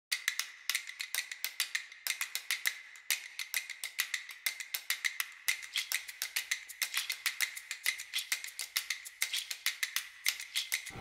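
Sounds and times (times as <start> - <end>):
light ticking percussion: 0.1 - 11.0.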